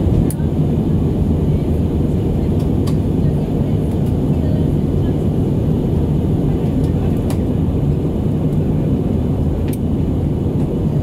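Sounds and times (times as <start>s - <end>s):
airplane cabin engine roar: 0.0s - 11.0s.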